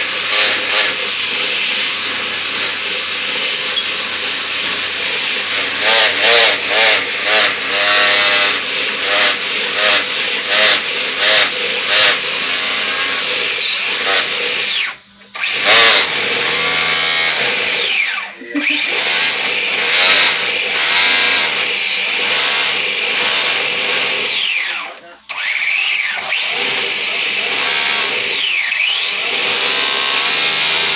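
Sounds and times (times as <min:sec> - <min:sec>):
rc car electric motor whine: 0:00.0 - 0:30.9.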